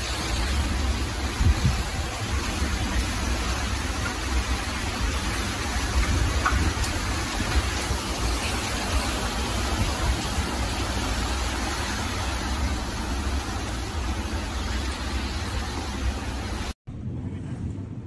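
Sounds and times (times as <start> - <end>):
heavy rain: 0.0 - 16.8
wind rumbling on microphone: 0.0 - 18.0.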